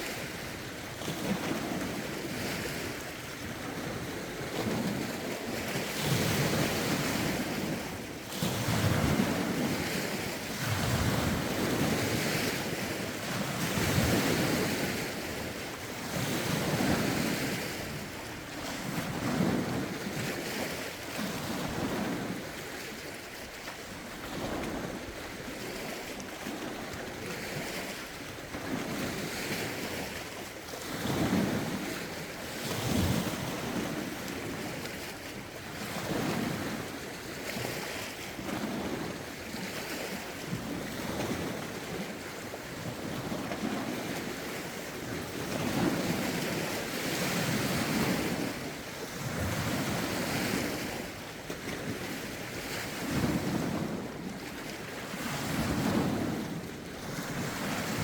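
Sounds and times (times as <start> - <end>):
waves washing against shore: 0.0 - 58.0
wind noise on microphone: 0.0 - 58.0.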